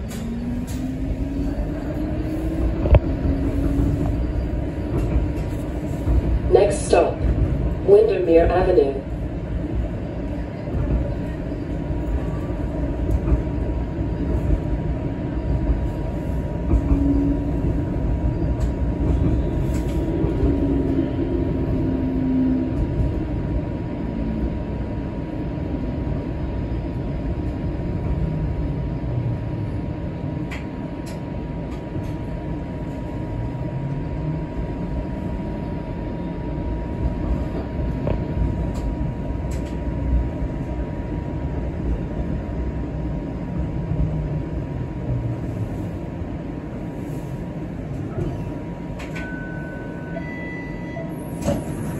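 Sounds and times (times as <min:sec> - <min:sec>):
streetcar motor whine: 0:00.0 - 0:51.9
wheels rumbling on rails: 0:00.0 - 0:51.9.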